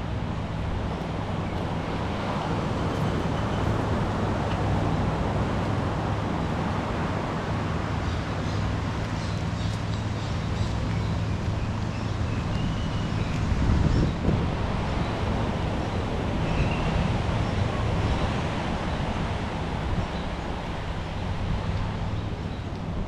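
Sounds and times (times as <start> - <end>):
vehicle engines running: 0.0 - 23.0
wind buffeting microphone: 0.0 - 23.0.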